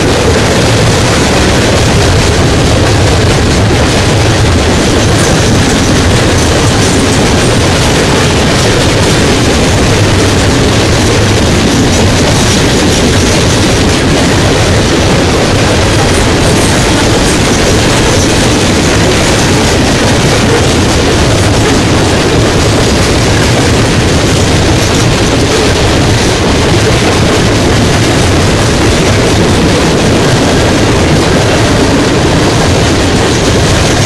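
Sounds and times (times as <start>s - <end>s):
freight train wheels rumbling on rail: 0.0s - 34.0s.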